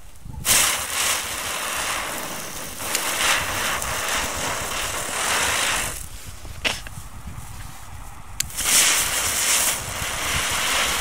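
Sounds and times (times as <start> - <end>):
ground spinner firework hissing: 0.0 - 11.0.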